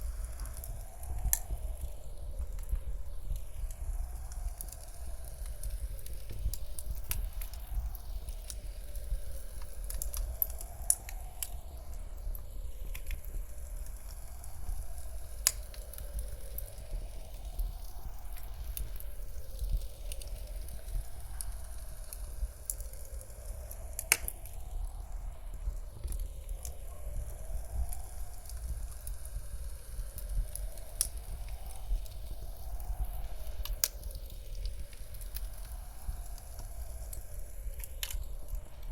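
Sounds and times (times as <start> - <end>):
low rumble of wind: 0.0 - 38.9
wood fire crackling and popping: 0.0 - 38.9.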